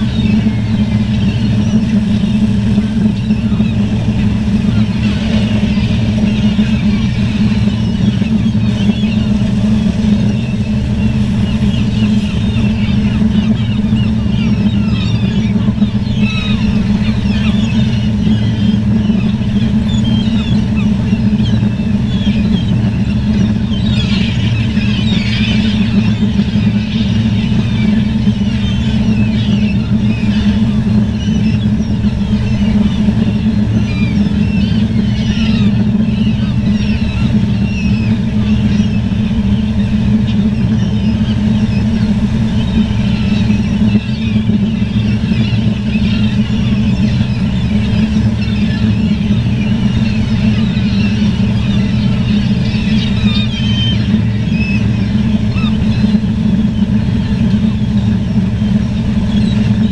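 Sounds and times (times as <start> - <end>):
loud low drone: 0.0 - 59.9
seagulls calling: 0.0 - 59.9.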